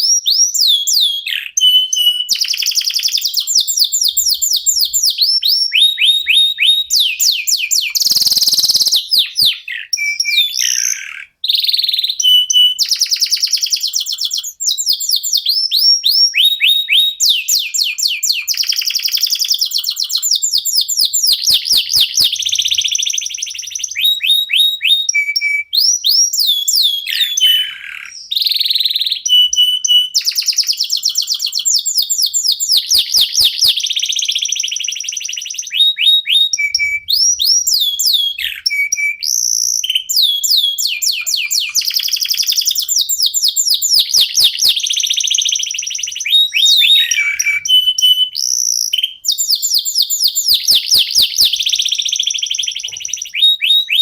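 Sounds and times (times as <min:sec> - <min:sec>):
canaries singing trills: 0:00.0 - 0:54.0.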